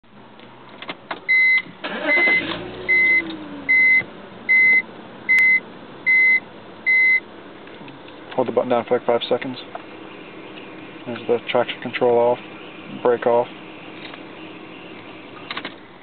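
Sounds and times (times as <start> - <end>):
car engine starting and idling: 0.1 - 16.0.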